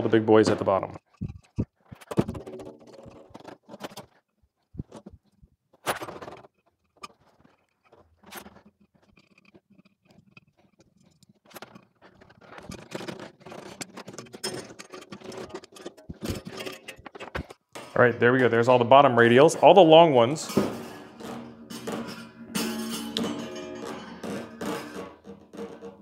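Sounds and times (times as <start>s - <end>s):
metallic clicks and scrapes: 0.4s - 18.7s, 19.6s - 26.0s.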